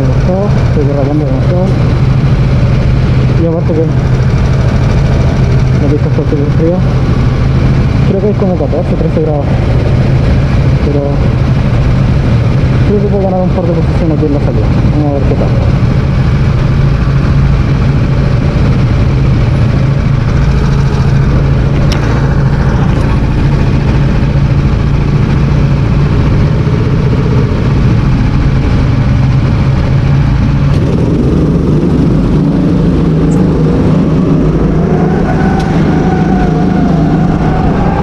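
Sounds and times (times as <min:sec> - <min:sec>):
go-kart engines buzzing: 0:00.0 - 0:38.0.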